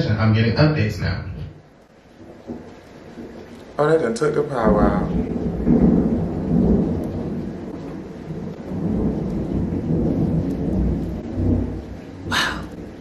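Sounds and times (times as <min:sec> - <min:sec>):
rolling thunder rumble: 0:00.0 - 0:13.0.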